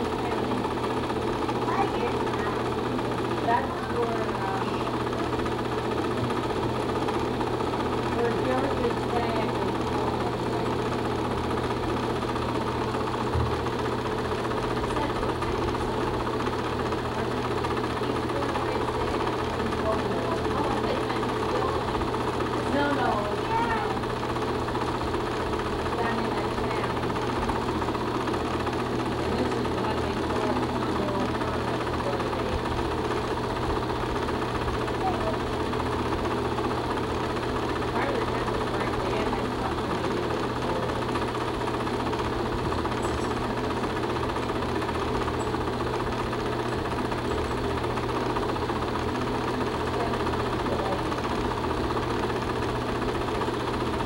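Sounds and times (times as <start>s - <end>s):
film projector clattering: 0.0s - 54.0s.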